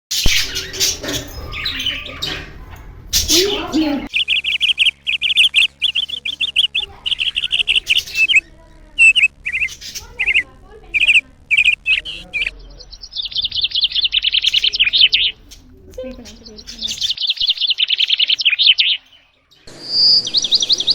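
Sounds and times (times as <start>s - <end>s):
bird chattering trill: 0.1s - 20.9s
small birds chirping: 0.1s - 20.9s.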